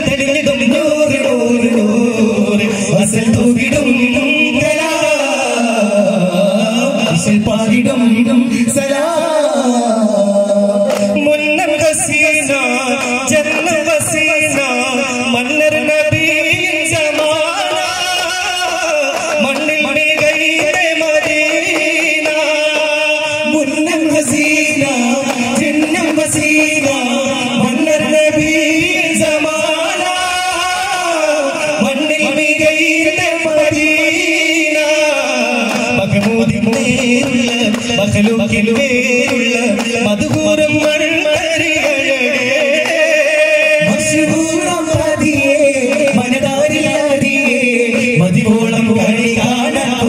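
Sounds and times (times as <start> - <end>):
frame drums in steady rhythm: 0.0 - 9.3, 10.8 - 50.0
men singing devotional song: 0.0 - 50.0.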